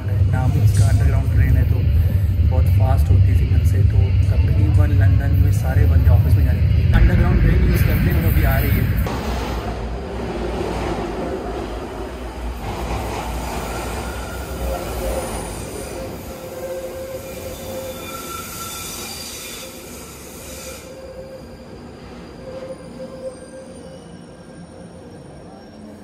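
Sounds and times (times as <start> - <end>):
underground train arriving: 0.0 - 26.0.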